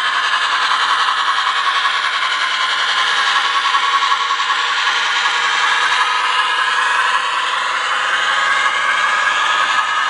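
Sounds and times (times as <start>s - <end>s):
model steam train running: 0.0s - 10.0s.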